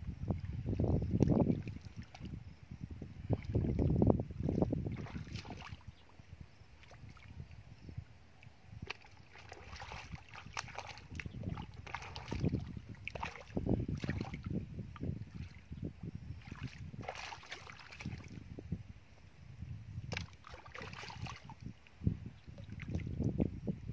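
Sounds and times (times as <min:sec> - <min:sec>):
splashing in shallow muddy water: 0:00.0 - 0:02.5, 0:03.2 - 0:07.6, 0:08.4 - 0:18.6, 0:20.0 - 0:23.4.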